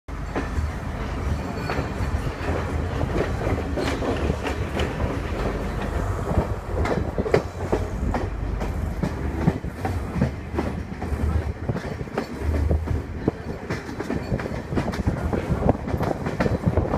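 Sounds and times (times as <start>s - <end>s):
train clacks and knocks: 0.1s - 16.9s
train wheels rumbling on track: 0.1s - 16.9s.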